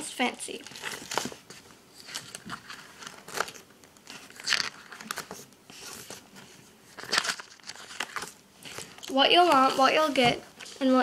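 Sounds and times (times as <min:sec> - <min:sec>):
paper pages rustling: 0:00.5 - 0:11.0.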